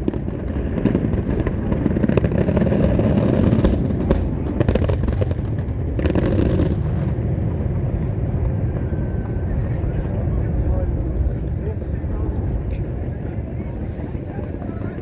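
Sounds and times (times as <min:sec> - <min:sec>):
fireworks crackling and banging: 0:00.0 - 0:15.0
steady low rumble: 0:00.0 - 0:15.0.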